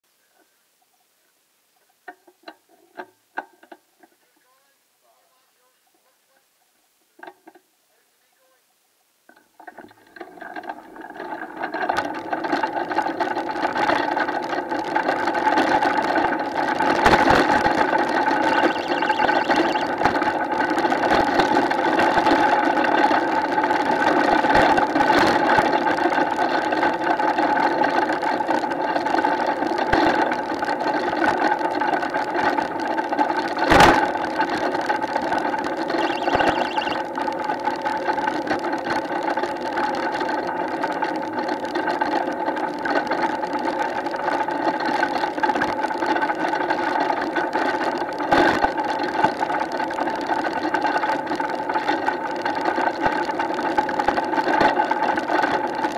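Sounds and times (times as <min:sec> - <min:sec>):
wheels rolling on tarmac: 0:09.3 - 0:55.9.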